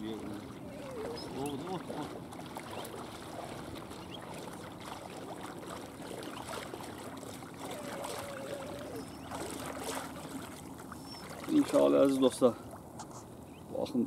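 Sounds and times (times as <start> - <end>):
wading through shallow water: 0.0 - 14.0.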